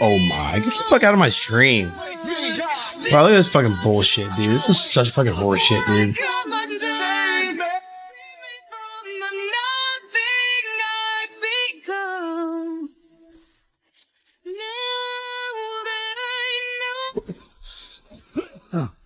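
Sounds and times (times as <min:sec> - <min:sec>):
woman singing: 0:00.0 - 0:13.6, 0:14.4 - 0:17.9.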